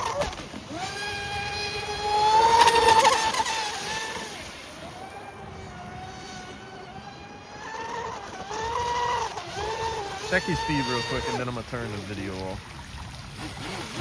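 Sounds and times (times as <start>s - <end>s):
rc boat motor whine: 0.0s - 14.0s.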